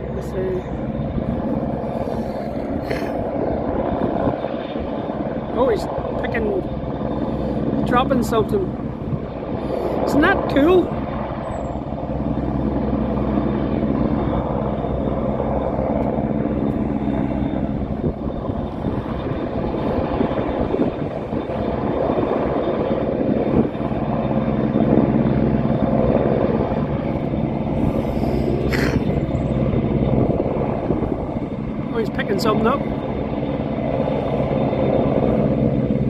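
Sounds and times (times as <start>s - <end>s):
helicopter hovering drone: 0.0s - 36.0s.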